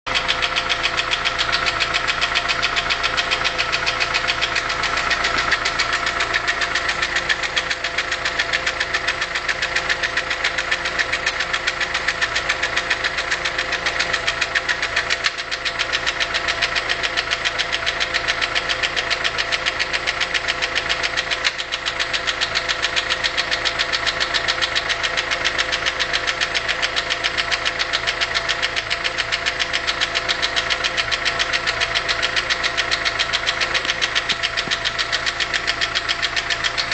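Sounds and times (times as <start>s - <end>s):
car engine running: 0.0s - 36.9s
valve train ticking knock: 0.1s - 36.9s.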